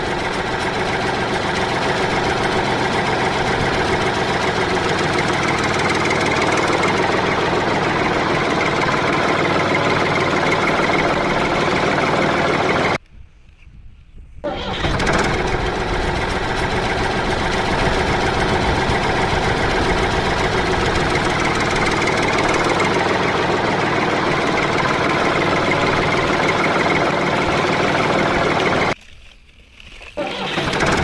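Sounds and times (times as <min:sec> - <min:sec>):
vehicle engine running: 0:00.0 - 0:13.0, 0:14.5 - 0:29.0, 0:30.1 - 0:31.0.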